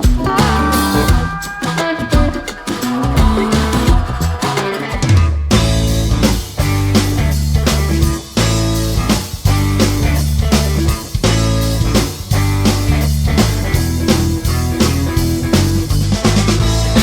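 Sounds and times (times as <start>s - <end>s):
rock music: 0.0s - 17.0s.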